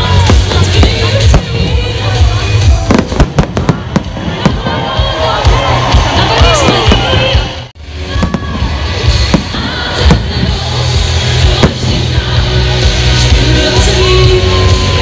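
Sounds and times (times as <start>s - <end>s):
firework bangs: 0.0s - 13.1s
loud music with heavy bass: 0.0s - 15.0s.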